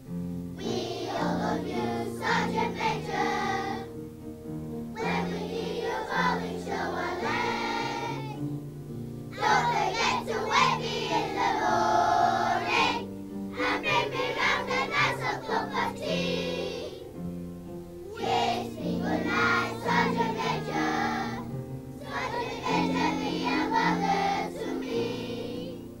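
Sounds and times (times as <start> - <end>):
piano accompaniment: 0.0 - 26.0
children's choir singing: 0.6 - 4.0, 4.9 - 8.7, 9.3 - 17.3, 18.0 - 26.0.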